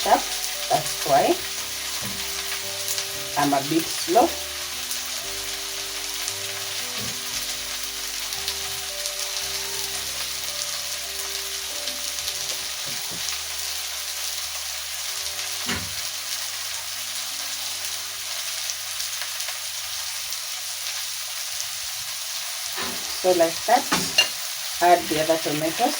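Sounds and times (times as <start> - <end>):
soft background music: 0.0 - 21.2, 22.5 - 25.9
onions sizzling in oil: 0.0 - 25.9.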